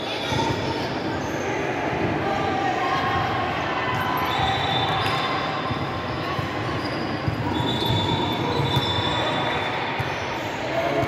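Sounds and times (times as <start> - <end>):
indoor hall background noise: 0.0 - 11.0.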